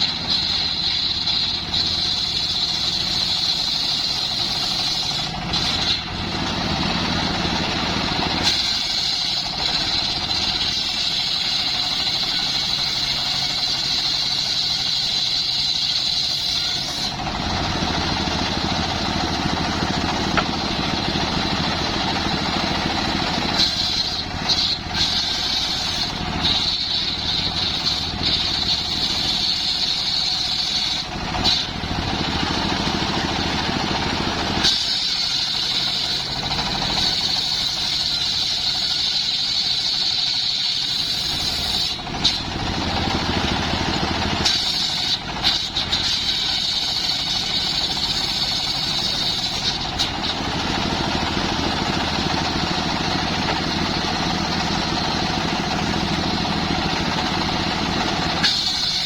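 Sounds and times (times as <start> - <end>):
engine-driven wood saw running: 0.0 - 59.0.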